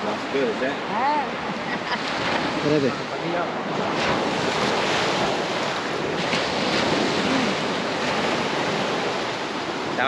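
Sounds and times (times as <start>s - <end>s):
sea surf washing on beach: 0.0s - 10.0s
wind on microphone: 0.0s - 10.0s.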